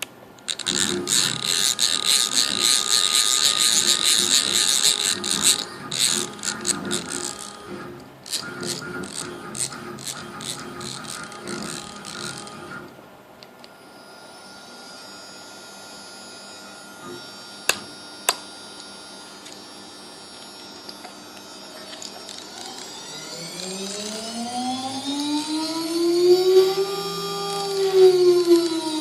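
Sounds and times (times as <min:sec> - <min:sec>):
steady electrical hum: 0:00.0 - 0:29.0
machine motor whine: 0:00.4 - 0:29.0.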